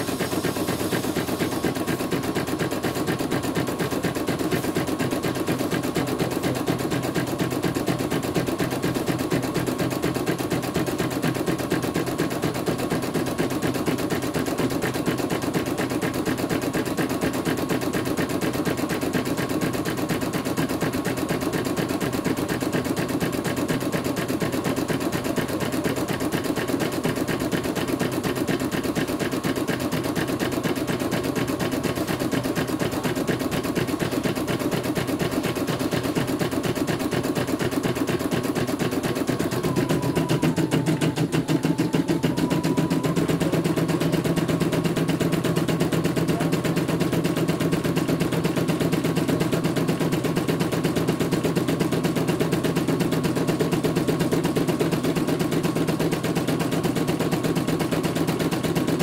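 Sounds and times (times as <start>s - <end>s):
embroidery machine stitching: 0.0s - 59.0s.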